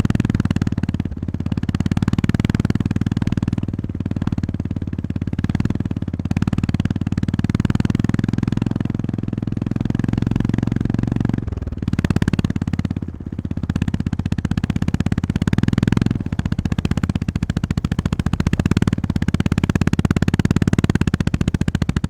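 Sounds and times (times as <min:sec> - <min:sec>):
motorcycle engine thumping: 0:00.0 - 0:22.0.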